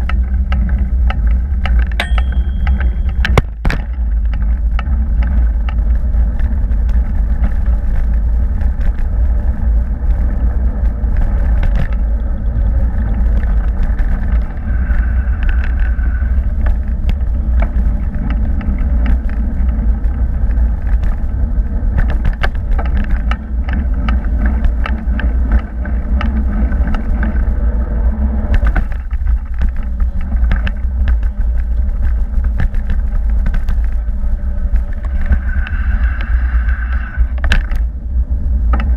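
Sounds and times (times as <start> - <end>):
bicycle clicks and rattles: 0.0 - 38.0
wind and road rumble: 0.0 - 38.9.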